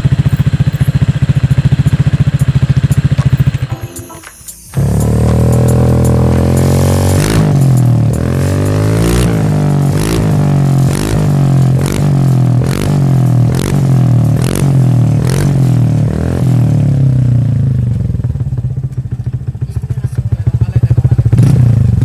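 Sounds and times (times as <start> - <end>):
scooter engine revving: 0.0 - 3.7, 4.7 - 22.0.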